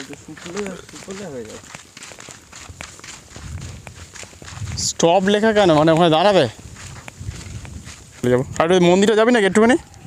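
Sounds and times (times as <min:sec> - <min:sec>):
footsteps and scuffs: 0:00.0 - 0:10.0.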